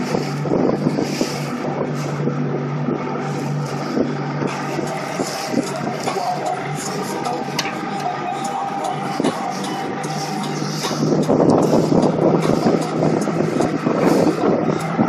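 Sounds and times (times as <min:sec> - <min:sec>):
boat motor running: 0:00.0 - 0:15.0
wind buffeting microphone: 0:00.0 - 0:15.0.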